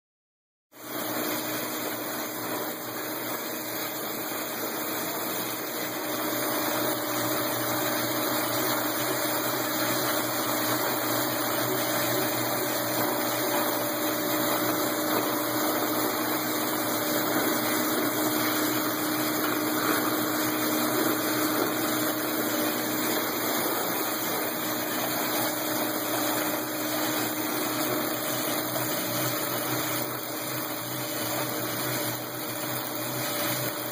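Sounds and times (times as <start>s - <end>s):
printing press running: 0.9s - 33.9s.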